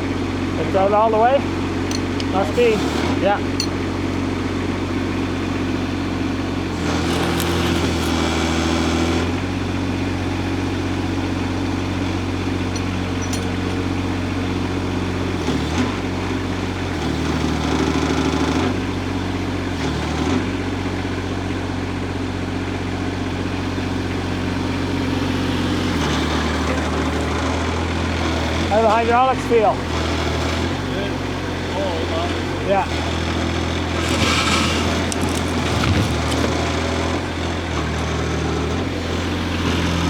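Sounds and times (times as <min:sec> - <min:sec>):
excavator engine running under load: 0:01.5 - 0:40.0.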